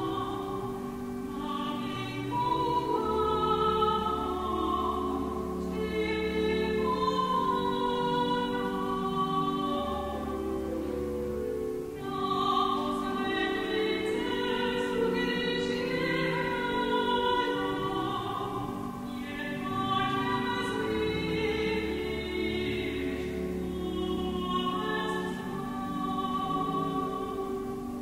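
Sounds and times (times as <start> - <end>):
operatic singing: 0.0 - 11.1, 11.9 - 28.0
pipe organ: 0.0 - 28.0.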